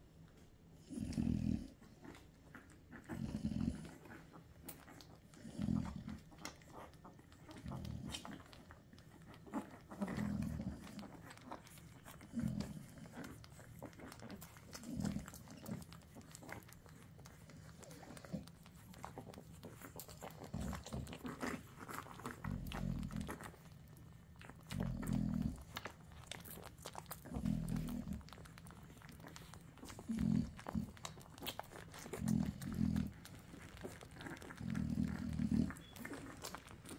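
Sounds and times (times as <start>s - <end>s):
puppies suckling: 0.0s - 36.9s
puppies grunting: 0.3s - 36.9s.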